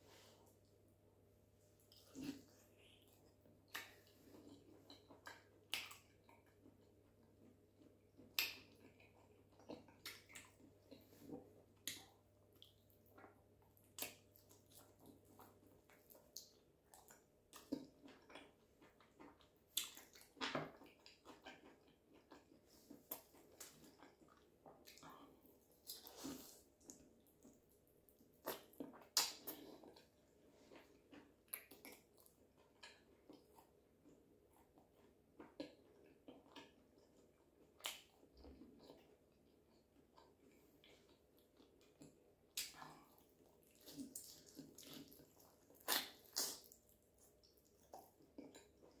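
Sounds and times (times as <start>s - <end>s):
person chewing: 1.8s - 49.0s.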